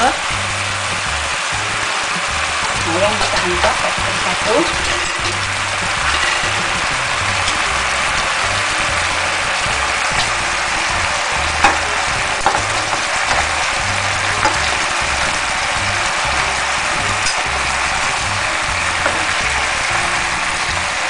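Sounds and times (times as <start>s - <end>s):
chicken sizzling in a wok: 0.0s - 21.0s.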